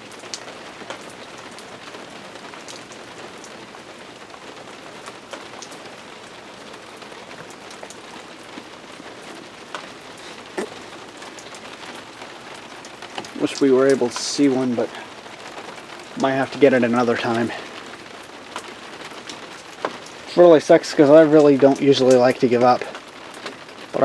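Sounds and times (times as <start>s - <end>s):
raindrop hits: 0.0s - 24.0s
steady rain falling: 0.0s - 24.0s.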